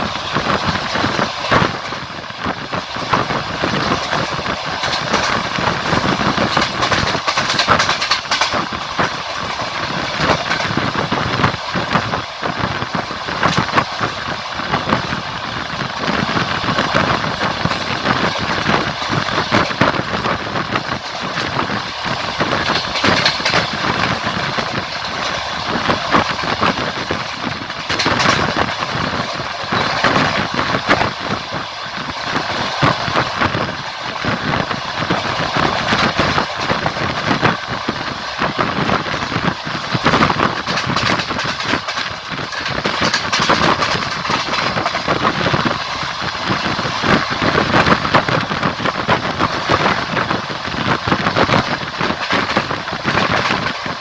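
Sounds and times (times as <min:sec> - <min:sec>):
train rolling noise: 0:00.0 - 0:54.0
wheels knocking on rails: 0:00.0 - 0:54.0.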